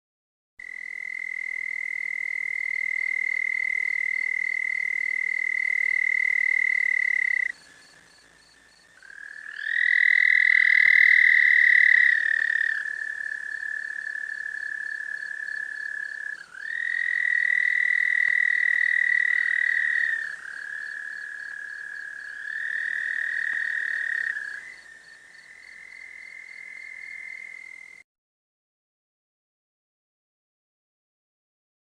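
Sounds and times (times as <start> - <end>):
frogs trilling: 0.6 - 28.0.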